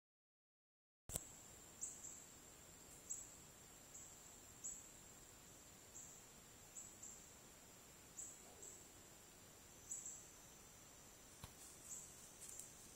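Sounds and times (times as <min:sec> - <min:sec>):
high-pitched insect whine and chirps: 0:01.2 - 0:12.9.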